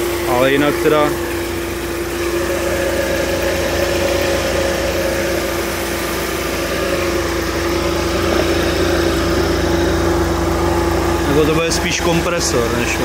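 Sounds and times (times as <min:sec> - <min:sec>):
car engine idling: 0:00.0 - 0:13.0
compressor hum: 0:00.0 - 0:13.0.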